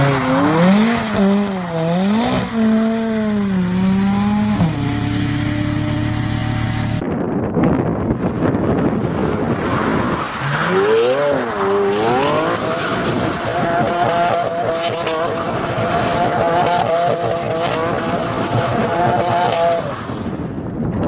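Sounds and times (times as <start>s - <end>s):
car engine revving: 0.0s - 7.0s, 8.2s - 20.2s.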